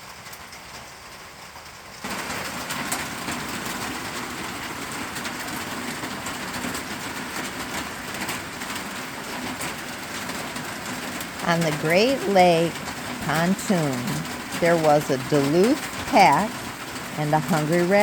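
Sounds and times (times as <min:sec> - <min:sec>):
heavy rain on a metal roof: 0:00.0 - 0:18.0.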